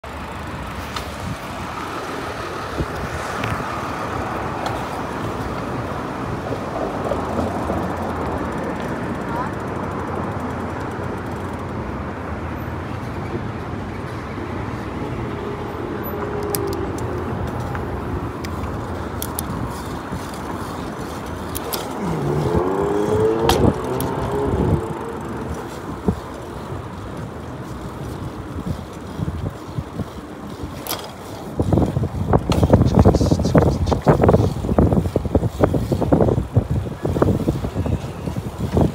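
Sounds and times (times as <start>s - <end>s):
city street traffic: 0.0s - 38.9s.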